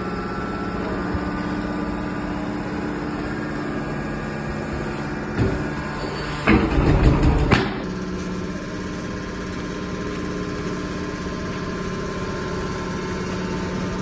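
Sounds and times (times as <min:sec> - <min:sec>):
hydraulic baler motor humming: 0:00.0 - 0:14.0.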